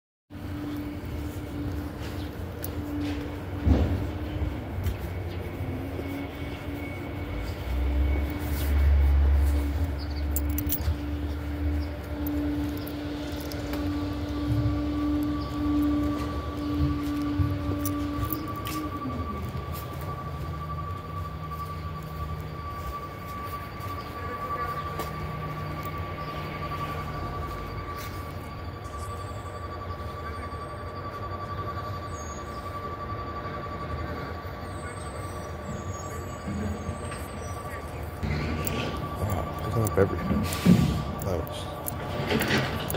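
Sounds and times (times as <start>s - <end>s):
constant hum: 0.3s - 42.9s
diesel truck engine rumbling: 0.3s - 42.9s
steady high whine: 0.3s - 42.9s.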